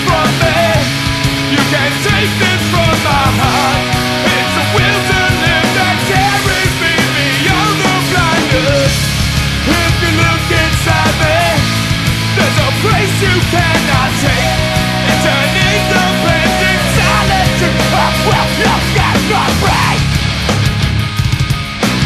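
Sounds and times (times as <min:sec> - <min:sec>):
punk rock band playing: 0:00.0 - 0:22.0.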